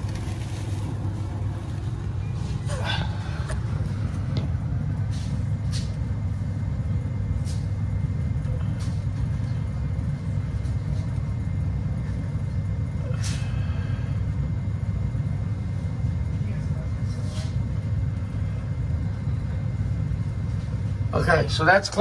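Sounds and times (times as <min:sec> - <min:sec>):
blower airflow rushing: 0:00.0 - 0:21.6.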